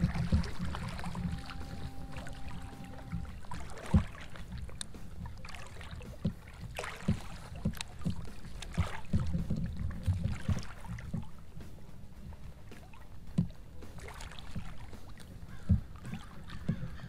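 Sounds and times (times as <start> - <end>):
net knocking against float tube: 0.0 - 11.9, 12.6 - 17.0
steady low rumble: 0.0 - 13.8
water splashing and dripping: 0.0 - 17.0.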